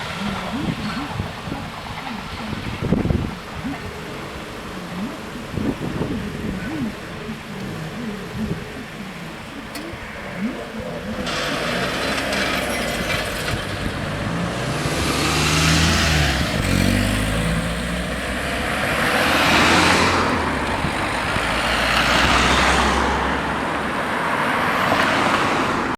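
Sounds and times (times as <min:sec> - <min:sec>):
low engine hum: 0:00.0 - 0:25.9
vehicles driving over level crossing: 0:00.0 - 0:25.9.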